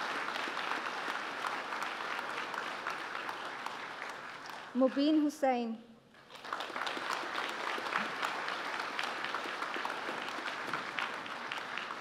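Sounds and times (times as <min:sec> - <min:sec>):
audience applause: 0:00.0 - 0:04.8, 0:06.2 - 0:12.0.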